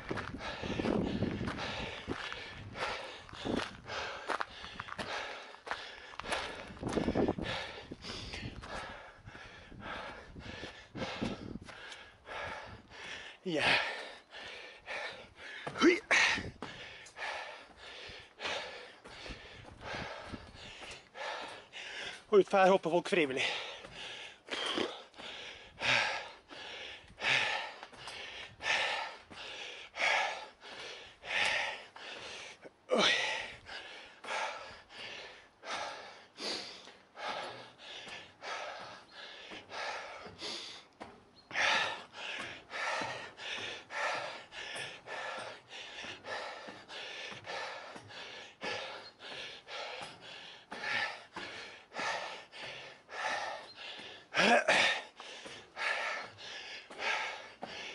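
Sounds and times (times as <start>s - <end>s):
man breathing hard: 0.0s - 57.9s.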